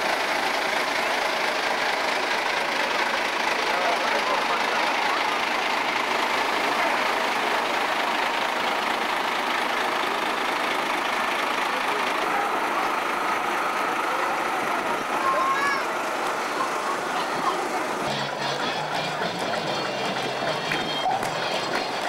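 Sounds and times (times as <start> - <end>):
street noise: 0.0 - 22.0
truck engine running: 0.0 - 22.0
faint voices: 2.5 - 22.0.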